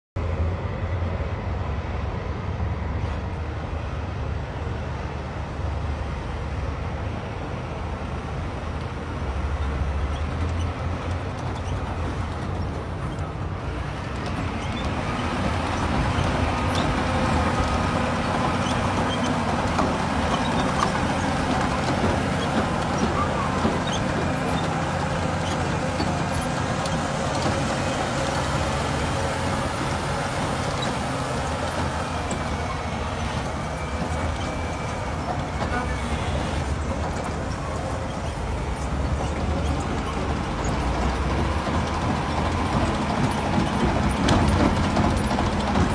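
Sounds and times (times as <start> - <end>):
heavy diesel engines running: 0.2 - 45.9.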